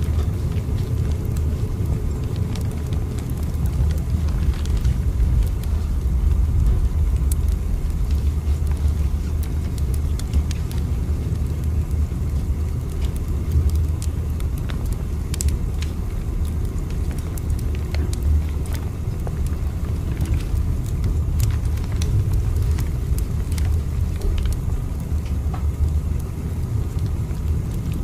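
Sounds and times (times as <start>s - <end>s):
train rumbling: 0.0s - 25.8s.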